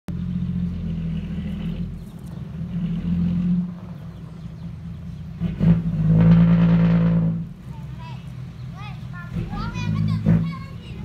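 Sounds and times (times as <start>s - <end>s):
dump truck diesel engine: 0.1s - 11.0s.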